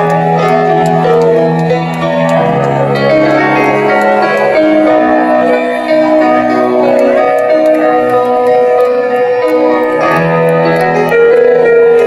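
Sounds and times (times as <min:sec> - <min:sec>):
live band playing rock ballad: 0:00.0 - 0:12.0
piano: 0:00.0 - 0:12.0.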